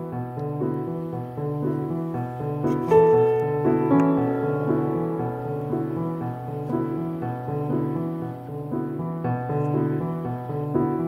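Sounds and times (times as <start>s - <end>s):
slow piano over bass line: 0.0s - 11.0s.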